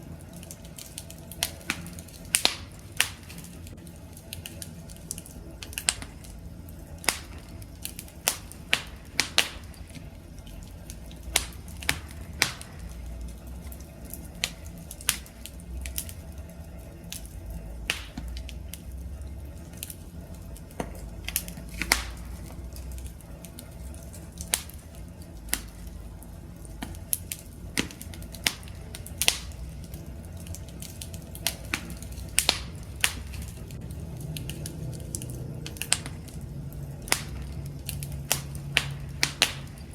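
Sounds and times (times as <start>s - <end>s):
campfire crackling: 0.0s - 39.9s
low rumble of flames: 0.0s - 39.9s.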